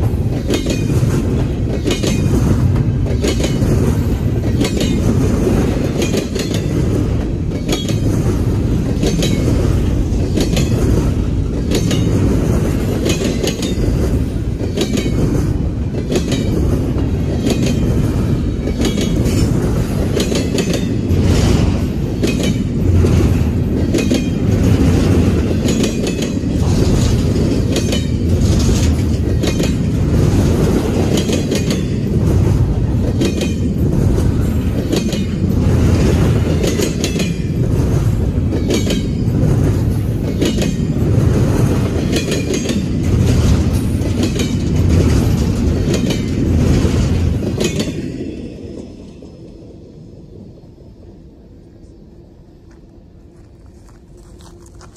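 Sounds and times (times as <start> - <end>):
train wheel clicks: 0.0 - 48.0
freight train rumbling past: 0.0 - 54.9.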